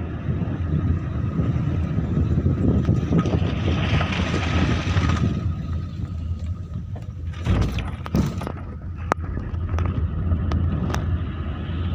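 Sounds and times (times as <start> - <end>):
engine and tyre rumble: 0.0 - 11.9
rattles and clicks inside car: 0.0 - 11.9.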